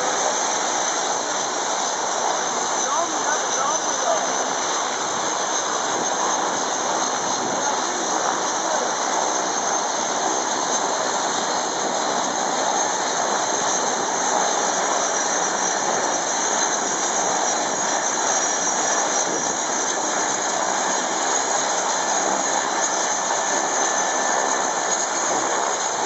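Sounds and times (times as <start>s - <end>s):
turboprop aircraft taxiing: 0.0s - 26.0s.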